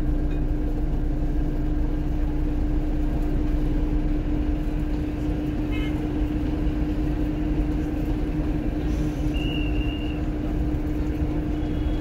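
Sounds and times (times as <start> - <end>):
coach engine drone: 0.0 - 12.0
constant hum: 0.0 - 12.0.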